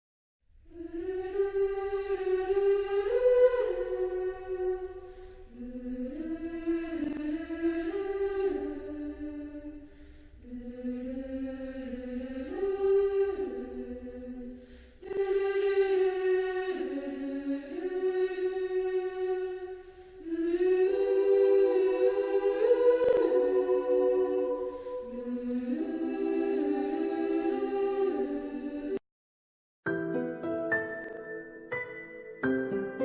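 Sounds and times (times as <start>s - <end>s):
slow choir-like music: 0.6s - 29.0s.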